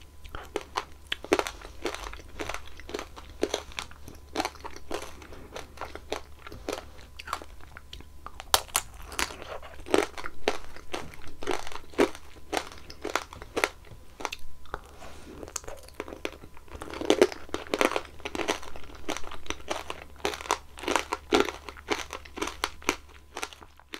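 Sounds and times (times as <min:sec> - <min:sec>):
soft chewing: 0:00.0 - 0:23.9
candy shell cracking and crunching: 0:00.3 - 0:23.9.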